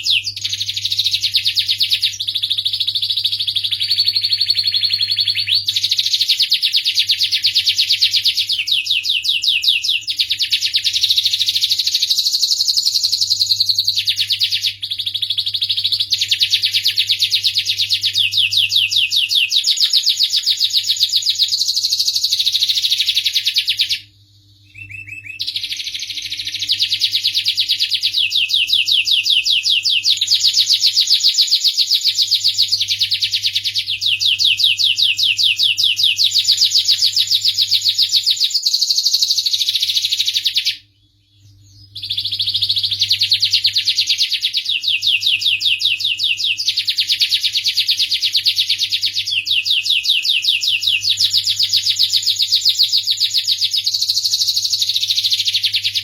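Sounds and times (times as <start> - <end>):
canary singing fast trills: 0.0 - 56.0.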